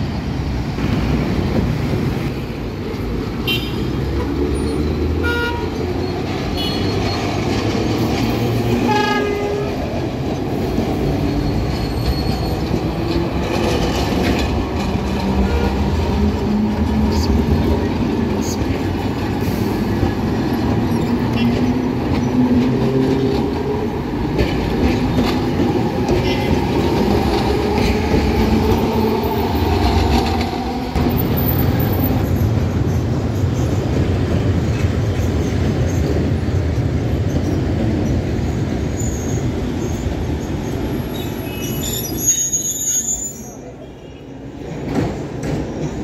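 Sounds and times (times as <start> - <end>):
tram motor drone and rolling: 4.0 - 41.5.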